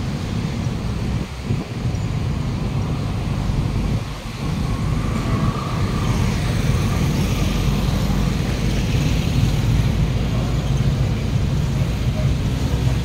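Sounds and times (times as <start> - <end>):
passing road traffic: 0.0 - 13.0
vehicle engine rumbling: 0.0 - 13.0.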